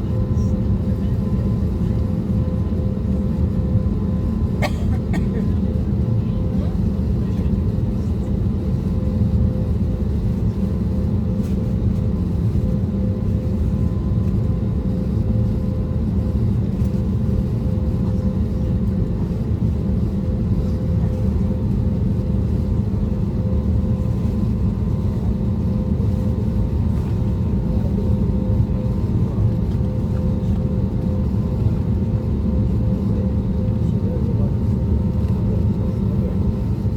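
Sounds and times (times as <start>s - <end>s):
airplane cabin rumble: 0.0s - 36.9s.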